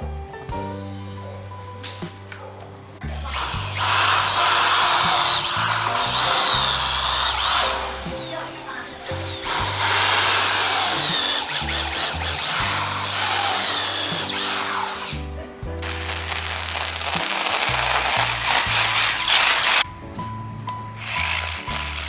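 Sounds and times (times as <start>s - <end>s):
background music with bass: 0.0s - 22.0s
electric drill boring into wood: 3.1s - 19.8s, 21.0s - 22.0s.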